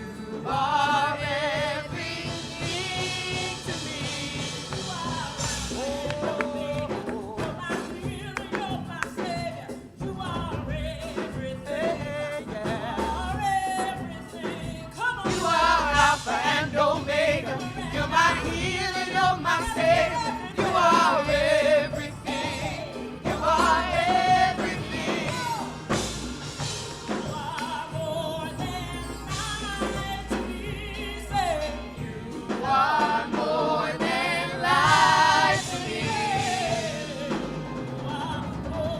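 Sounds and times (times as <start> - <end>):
instrumental accompaniment with bass: 0.0 - 38.9.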